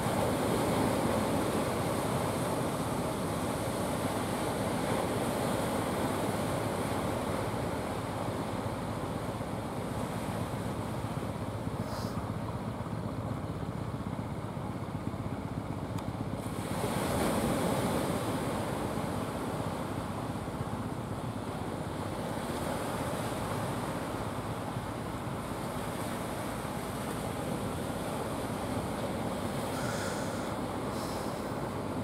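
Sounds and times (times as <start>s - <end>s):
sea surf washing: 0.0s - 13.1s, 16.2s - 32.0s.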